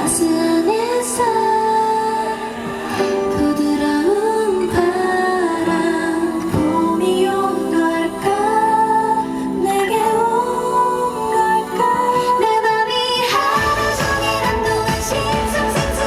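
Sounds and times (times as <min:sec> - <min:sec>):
instrumental backing track: 0:00.0 - 0:16.0
woman singing pop song: 0:00.0 - 0:16.0.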